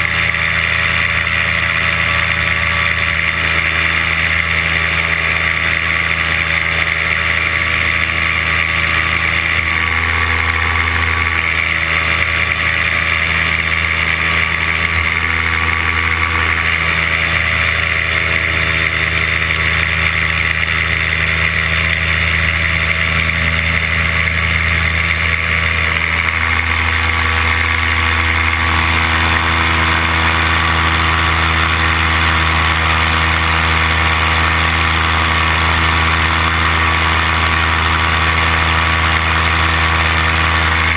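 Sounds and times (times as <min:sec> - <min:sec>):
paramotor engine and propeller: 0:00.0 - 0:40.9.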